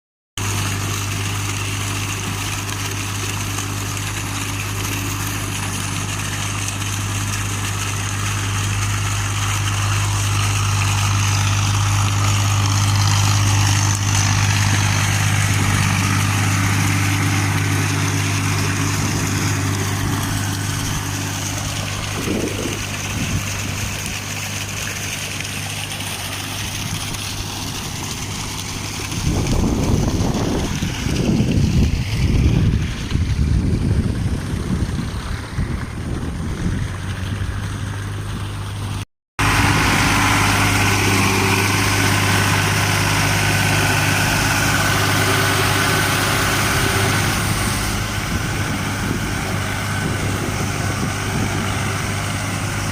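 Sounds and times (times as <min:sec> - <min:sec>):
tractor diesel engine running: 0:00.4 - 0:52.9.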